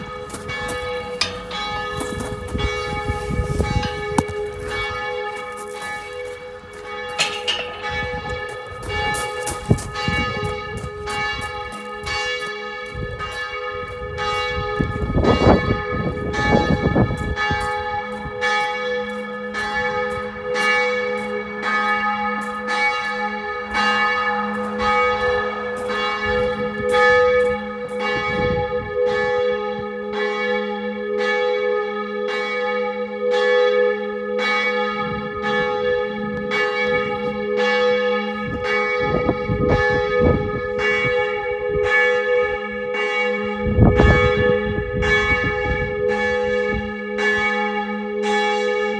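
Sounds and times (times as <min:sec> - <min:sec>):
church bell tolling: 0:00.0 - 0:48.9.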